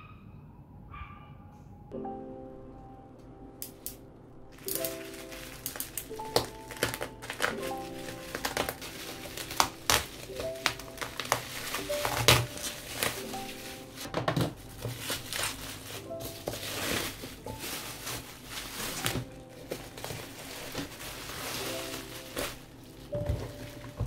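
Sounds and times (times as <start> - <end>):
light background music: 0.1 - 24.0
bubble wrap crinkling and tearing: 3.6 - 24.0.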